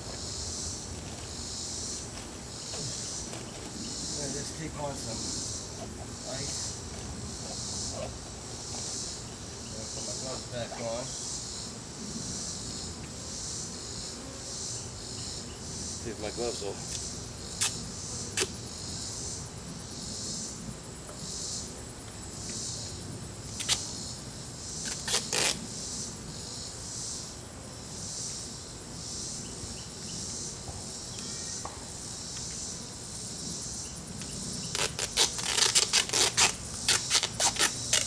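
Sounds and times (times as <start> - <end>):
insects chirping: 0.0 - 38.0.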